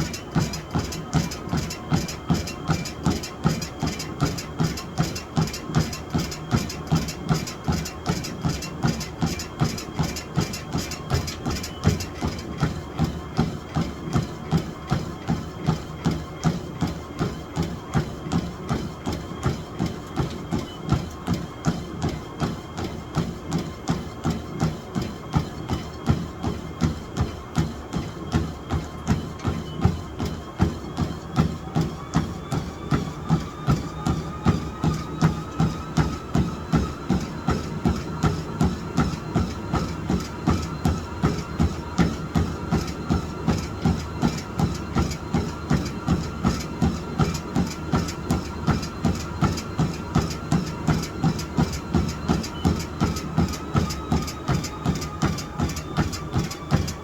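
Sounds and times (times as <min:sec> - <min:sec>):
footfalls on treadmill: 0:00.0 - 0:57.0
treadmill creaking: 0:00.0 - 0:57.0
treadmill running deck: 0:00.0 - 0:57.0.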